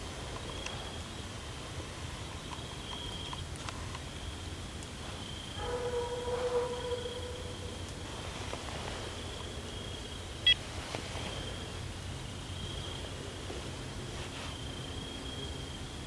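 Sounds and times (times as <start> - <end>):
high thin insect call: 0.0 - 13.4.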